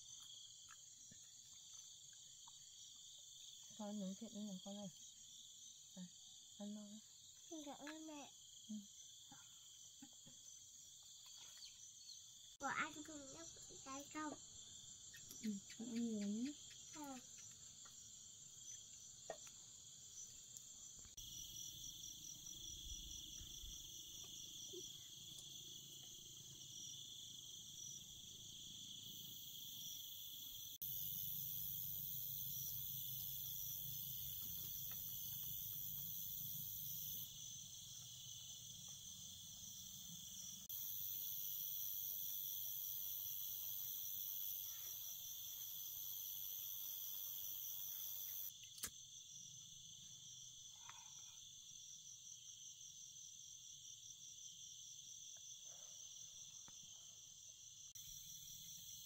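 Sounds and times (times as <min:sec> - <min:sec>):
crickets and insects trilling: 0:00.0 - 0:59.0.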